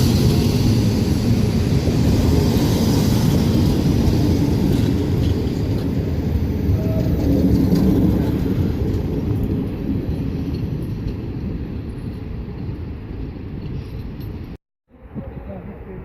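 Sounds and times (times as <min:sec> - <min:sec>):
passenger train rumbling on tracks: 0:00.0 - 0:16.0.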